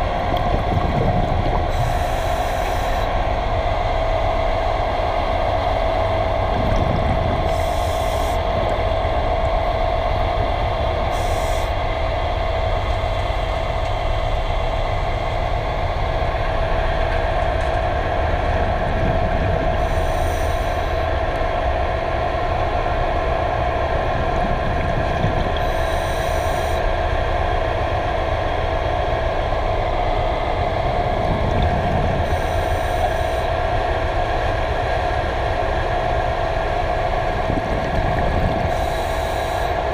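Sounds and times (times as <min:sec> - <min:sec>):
constant mid-pitched tone: 0:00.0 - 0:39.9
underwater machinery hum: 0:00.0 - 0:39.9.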